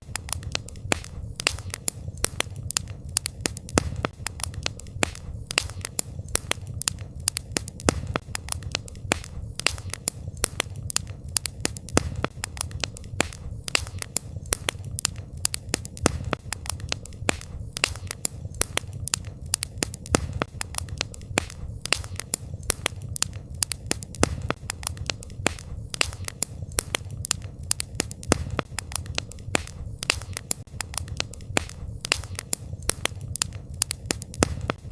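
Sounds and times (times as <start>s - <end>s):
campfire crackling and popping: 0.0s - 34.9s
low rumble of burning fire: 0.0s - 34.9s.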